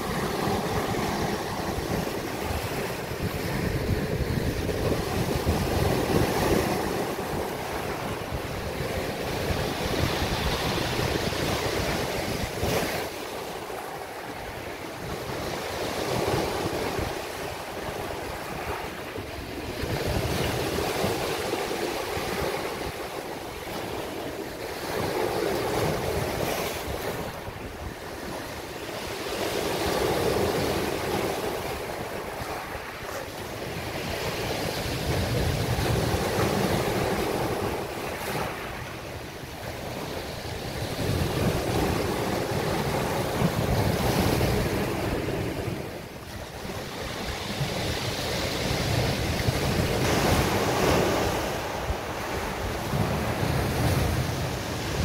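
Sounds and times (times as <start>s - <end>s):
waves breaking on a beach: 0.0s - 55.0s.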